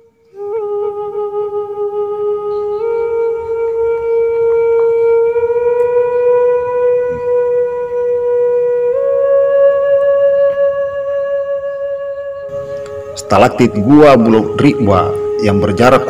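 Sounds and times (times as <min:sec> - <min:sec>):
sustained wind instrument note: 0:00.0 - 0:16.0.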